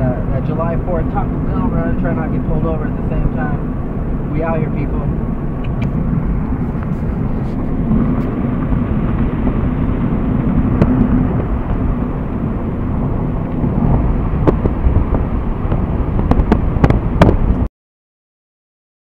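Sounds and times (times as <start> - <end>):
car road and wind noise: 0.0 - 17.7.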